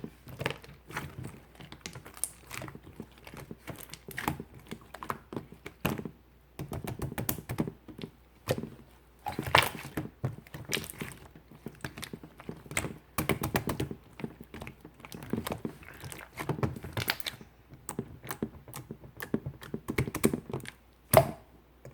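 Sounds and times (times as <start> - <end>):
slime squished by hand: 0.0 - 21.5.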